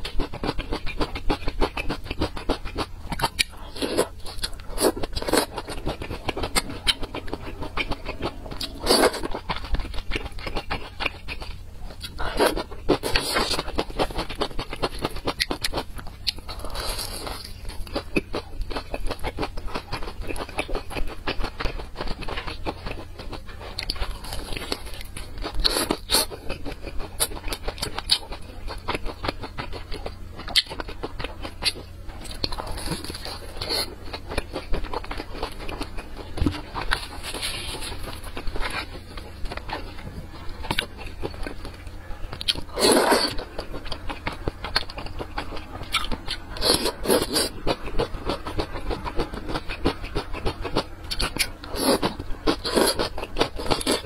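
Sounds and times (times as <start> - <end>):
crunchy chewing: 0.0 - 54.0
steady low hum: 0.0 - 54.0.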